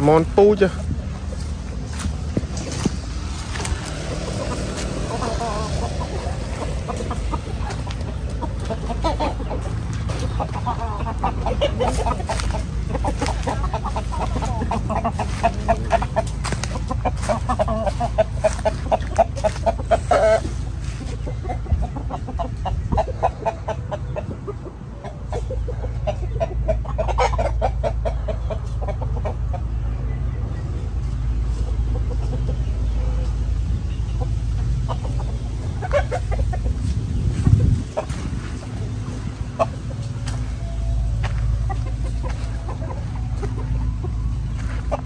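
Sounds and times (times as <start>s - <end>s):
chickens clucking: 0.0s - 45.0s
steady low rumble: 0.0s - 45.0s.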